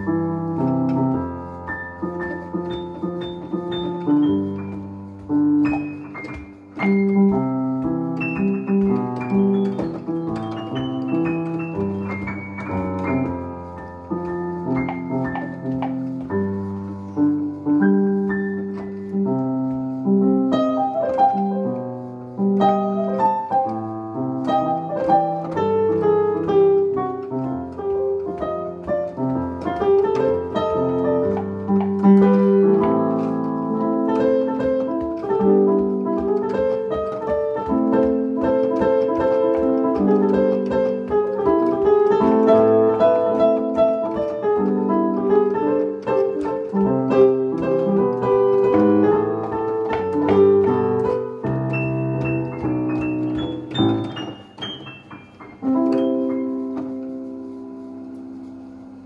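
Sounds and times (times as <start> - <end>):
digital keyboard piano melody: 0.0 - 59.0.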